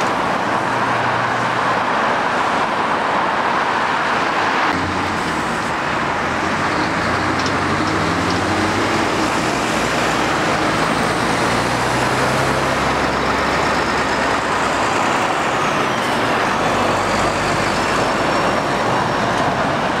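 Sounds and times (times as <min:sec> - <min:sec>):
lorry diesel engines running: 0:00.0 - 0:20.0
tyre and traffic noise: 0:00.0 - 0:20.0.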